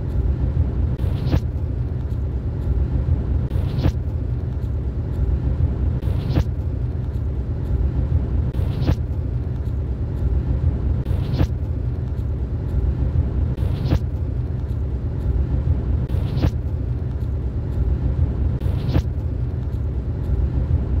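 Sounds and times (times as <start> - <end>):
vehicle rumbling on road: 0.0 - 21.0.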